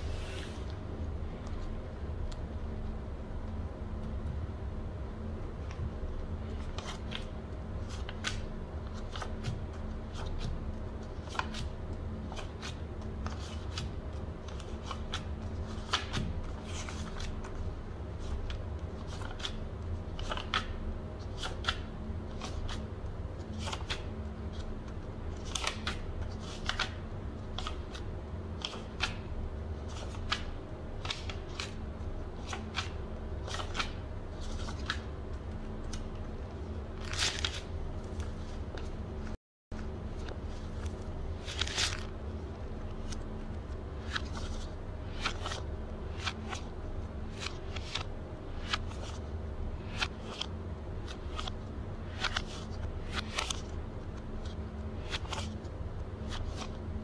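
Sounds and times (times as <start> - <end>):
steady low hum: 0.0 - 57.0
banknotes rustling and snapping: 5.6 - 56.9.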